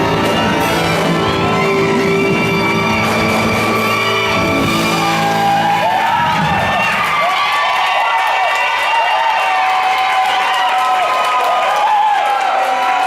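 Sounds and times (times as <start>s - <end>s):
band music in a large hall: 0.0s - 10.7s
crowd shouting and cheering: 0.0s - 13.0s.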